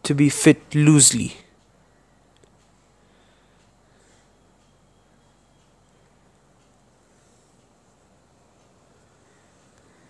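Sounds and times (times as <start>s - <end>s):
low steady hiss: 0.0s - 10.0s.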